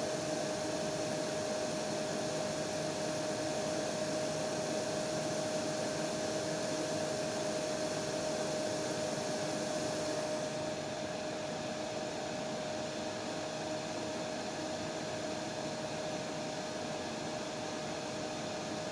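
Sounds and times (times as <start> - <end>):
hair dryer running: 0.0 - 18.9.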